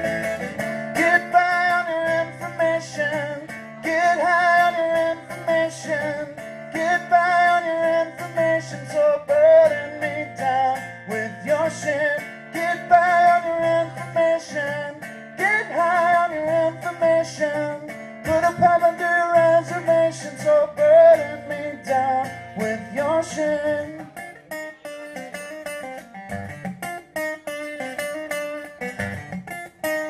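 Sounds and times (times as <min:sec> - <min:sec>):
man singing: 0:00.0 - 0:24.9
acoustic guitar: 0:00.0 - 0:30.0.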